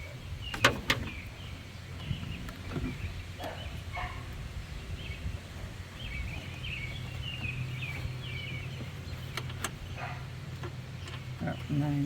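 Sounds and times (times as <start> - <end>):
bird chirping and twittering: 0.0 - 12.0.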